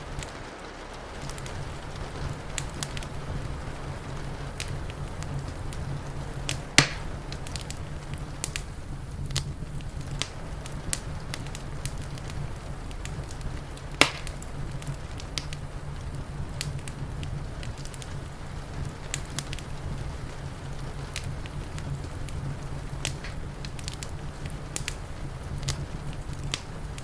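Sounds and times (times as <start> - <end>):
loud fire snaps: 0.0 - 27.0
soft hiss of rain: 0.0 - 27.0
steady low rumble: 0.0 - 27.0
wood fire crackling: 0.0 - 27.0.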